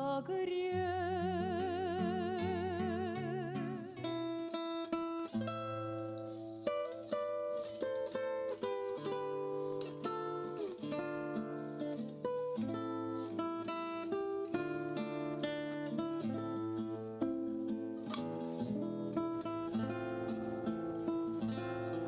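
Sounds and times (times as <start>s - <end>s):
acoustic guitar melody: 0.0s - 22.0s.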